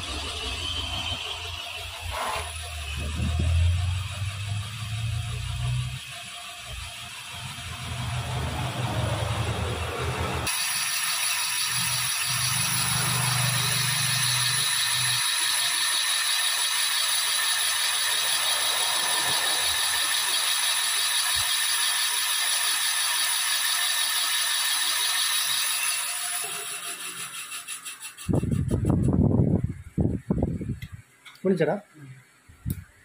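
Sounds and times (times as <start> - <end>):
boring machine whirring: 0.0 - 29.1.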